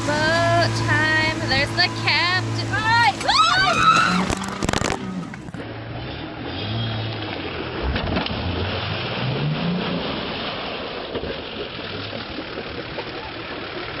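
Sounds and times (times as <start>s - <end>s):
off-road engine revving: 0.0s - 14.0s
splashing through mud and water: 0.0s - 14.0s.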